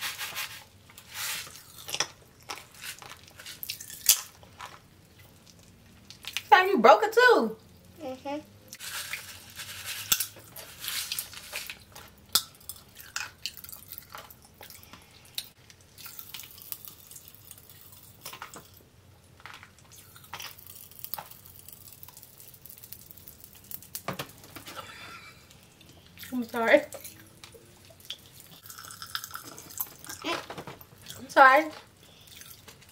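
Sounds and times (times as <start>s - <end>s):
popping candy crackling: 0.8s - 6.6s, 8.7s - 32.9s.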